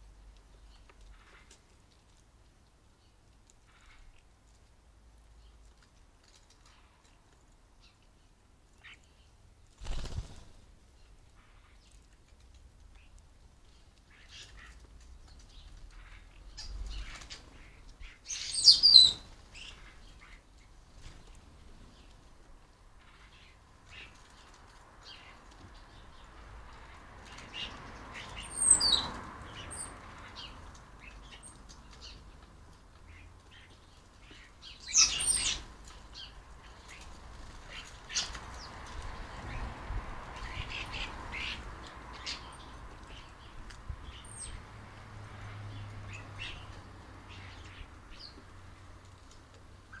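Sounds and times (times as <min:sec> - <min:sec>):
small birds chirping: 0:02.8 - 0:50.0.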